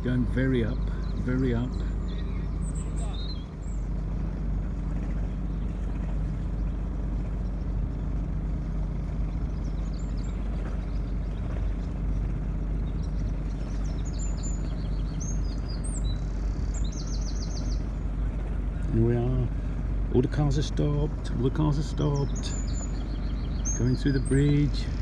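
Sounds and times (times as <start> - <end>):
birds chirping: 0.0 - 25.0
motor boat engine rumbling: 0.0 - 25.0.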